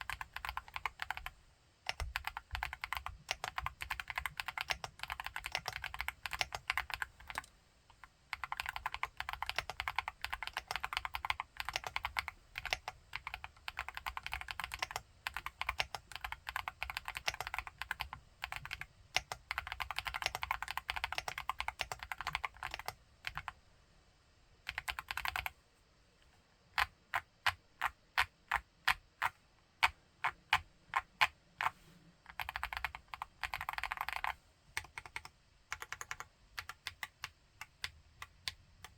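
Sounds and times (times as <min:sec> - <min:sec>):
mechanical keyboard typing: 0:00.0 - 0:23.6, 0:24.7 - 0:25.5, 0:26.8 - 0:38.9.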